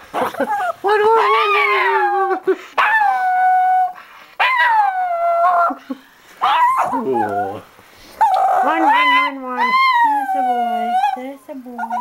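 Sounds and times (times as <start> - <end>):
dog howling: 0.4 - 5.8, 6.4 - 12.0.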